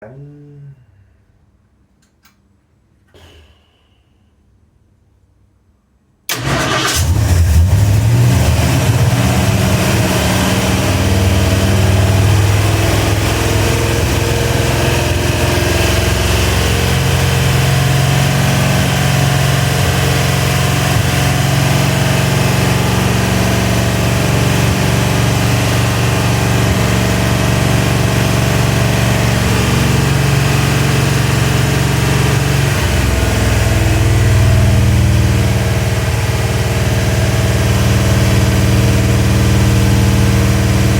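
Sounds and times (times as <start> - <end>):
engine starting and running: 6.3 - 40.9.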